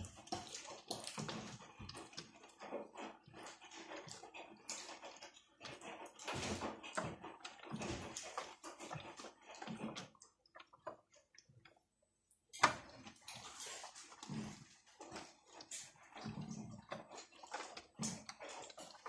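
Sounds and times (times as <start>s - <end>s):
water sloshing in washing machine: 0.0s - 19.0s.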